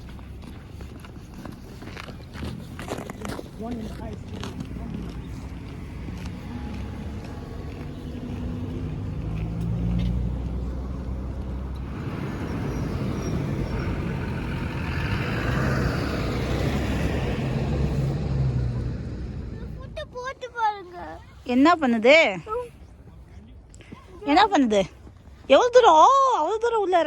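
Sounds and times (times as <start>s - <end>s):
vehicle passing on street: 0.0s - 23.6s.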